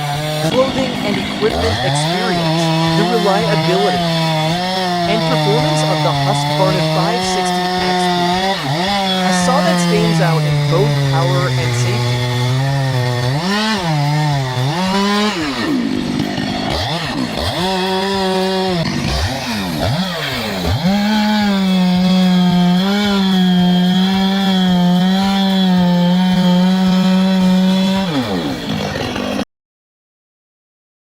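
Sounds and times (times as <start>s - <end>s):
chainsaw revving and cutting wood: 0.0s - 29.5s.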